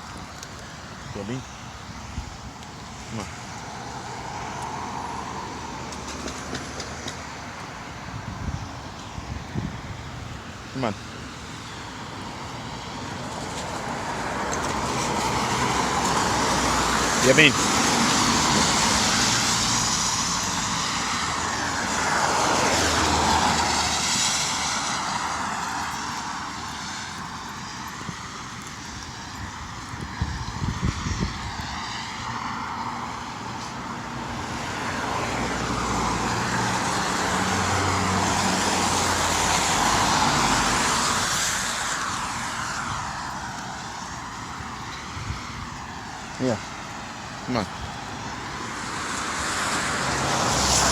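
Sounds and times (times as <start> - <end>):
passing vehicles engine hum and tyre hiss: 0.0 - 50.9.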